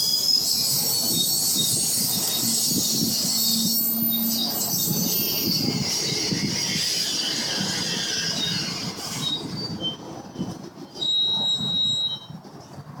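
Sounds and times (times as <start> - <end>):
low train rumble: 0.0 - 13.0
train wheels squealing on rails: 0.0 - 13.0.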